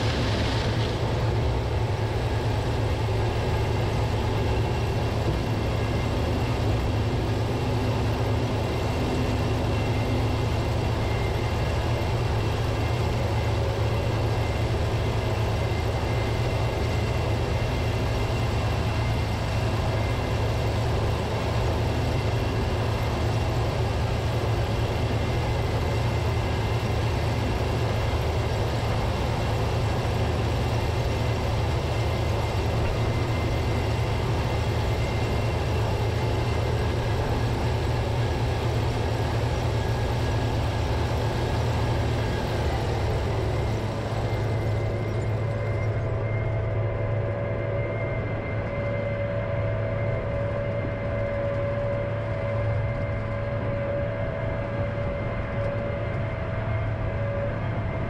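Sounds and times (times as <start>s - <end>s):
combine harvester engine hum: 0.0s - 58.0s
faint high machine tones: 2.4s - 58.0s.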